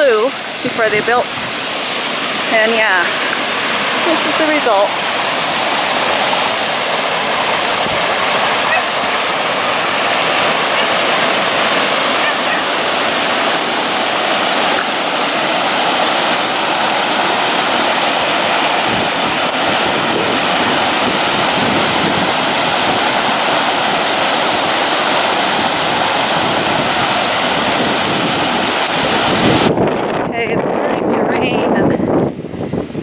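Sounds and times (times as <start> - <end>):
floodwater rushing down a channel: 0.0 - 31.2.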